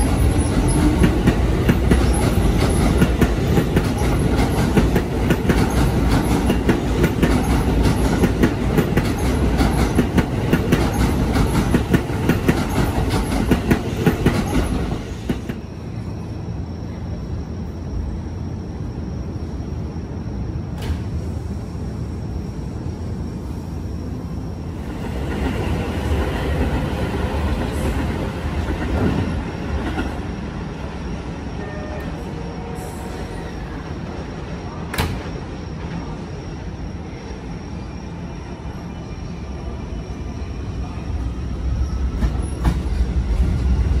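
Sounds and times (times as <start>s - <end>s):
electric train slowing to a stop: 0.0s - 44.0s
wheels rumbling on rail: 0.0s - 44.0s.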